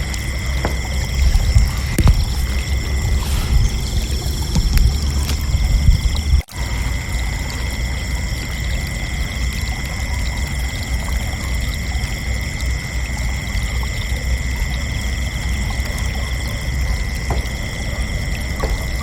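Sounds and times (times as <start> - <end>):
crickets chirping: 0.0 - 19.0
steady low rumble: 0.0 - 19.0.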